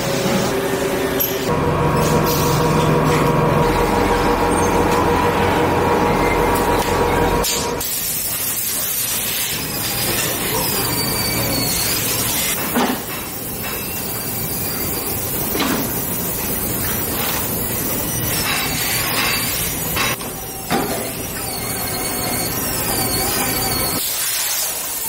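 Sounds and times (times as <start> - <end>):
factory machinery hissing: 0.0 - 25.0.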